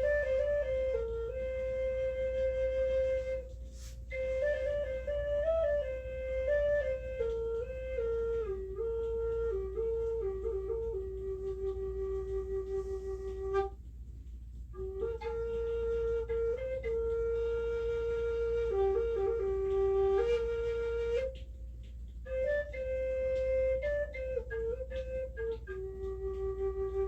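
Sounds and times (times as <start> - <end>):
slow flute-like melody: 0.0 - 27.0.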